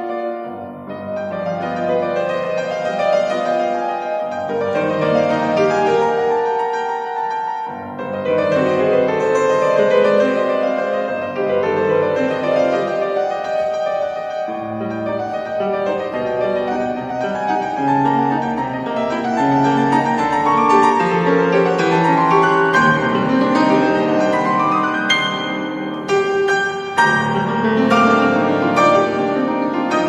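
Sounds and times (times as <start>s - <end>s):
solo grand piano playing: 0.0s - 30.0s.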